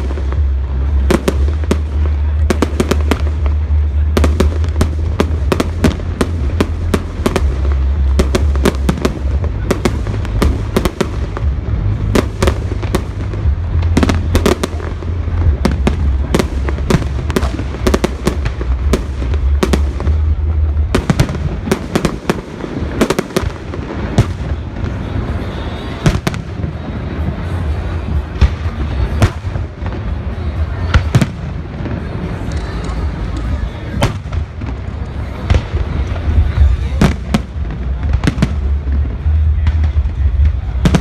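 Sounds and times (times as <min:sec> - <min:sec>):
fireworks bangs and crackles: 0:00.0 - 0:41.0
low rumble: 0:00.0 - 0:41.0.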